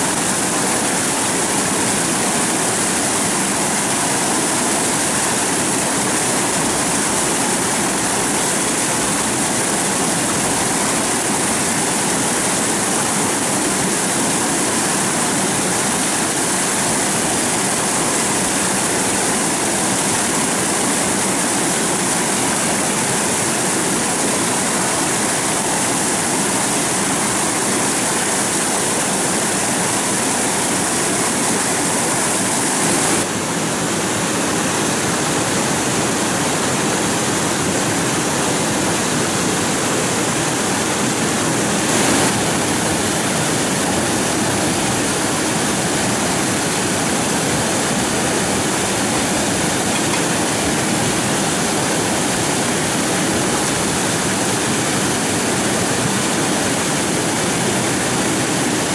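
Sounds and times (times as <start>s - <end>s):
flowing water rushing: 0.0s - 58.9s.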